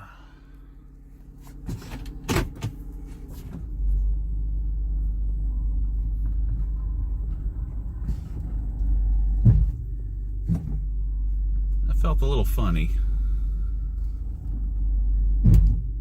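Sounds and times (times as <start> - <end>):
car engine running: 0.0 - 16.0
deep steady rumble: 0.0 - 16.0.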